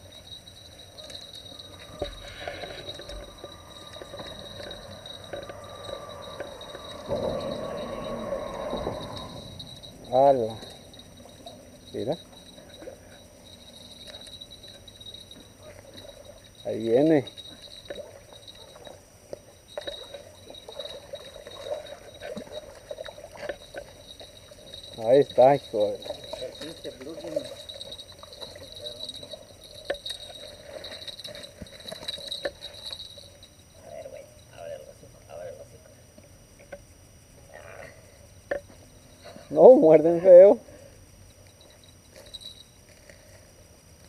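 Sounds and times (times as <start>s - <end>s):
crickets chirring: 0.0s - 44.0s.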